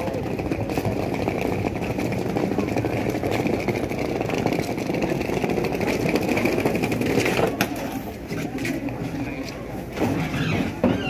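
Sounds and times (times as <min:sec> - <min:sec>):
diesel engine rumble: 0:00.0 - 0:11.0.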